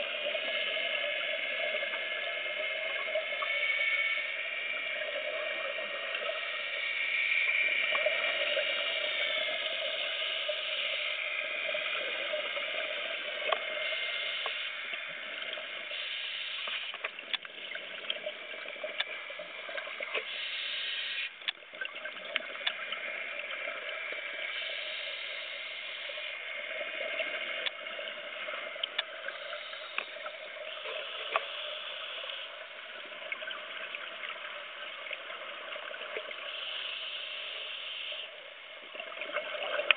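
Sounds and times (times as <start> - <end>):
diver's regulator hissing and bubbling: 0.0 - 39.9.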